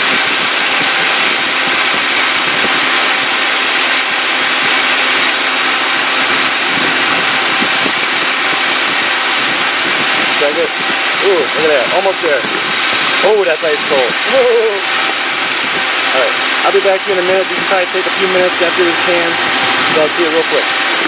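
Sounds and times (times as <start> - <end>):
car engine idling: 0.0 - 21.0
electric cooling fan running: 0.0 - 21.0.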